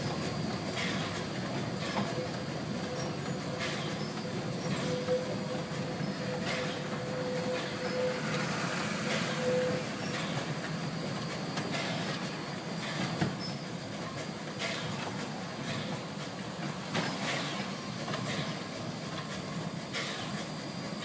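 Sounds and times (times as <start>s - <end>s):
steam train rolling rumble: 0.0s - 21.0s.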